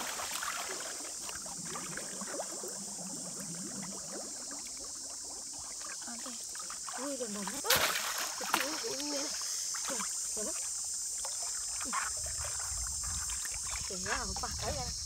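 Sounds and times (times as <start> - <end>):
bubbling water: 0.0 - 7.7, 8.3 - 15.0
water sloshing: 0.0 - 15.0.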